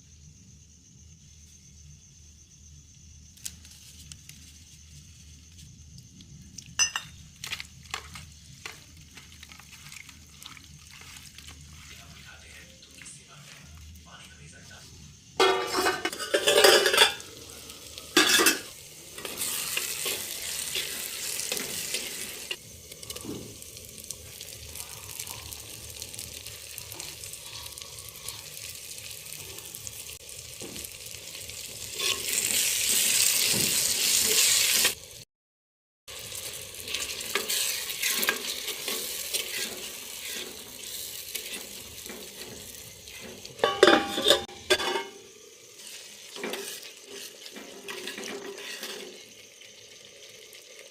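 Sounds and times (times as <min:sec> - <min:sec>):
food frying and sizzling: 0:00.8 - 0:35.3, 0:36.1 - 0:50.9.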